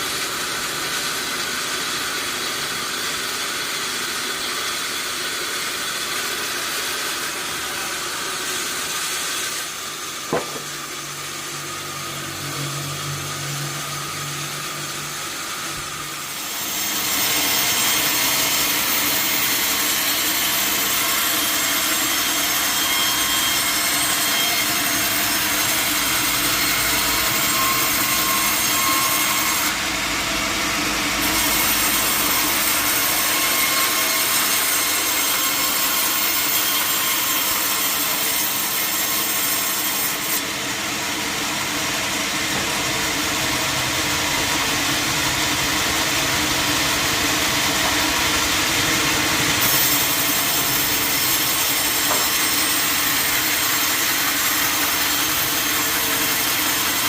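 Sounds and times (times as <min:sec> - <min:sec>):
saw cutting through log: 0:00.0 - 0:57.0.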